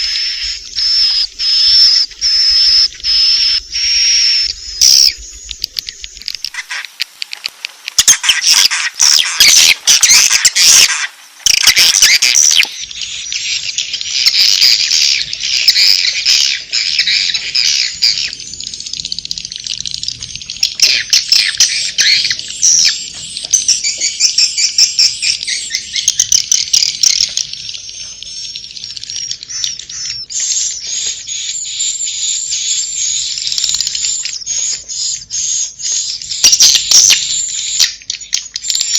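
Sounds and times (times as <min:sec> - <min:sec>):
birds twittering chirps: 0:00.0 - 0:38.9.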